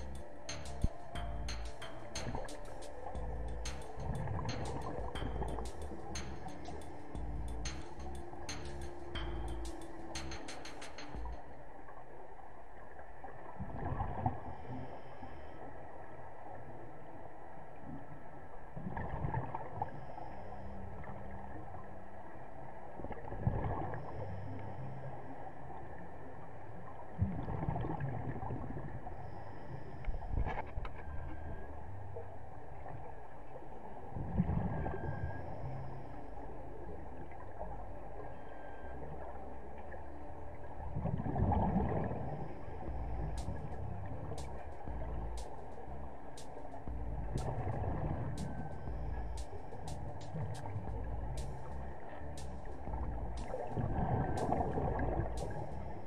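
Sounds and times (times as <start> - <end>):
low underwater rumble: 0.0 - 12.2, 18.8 - 56.0.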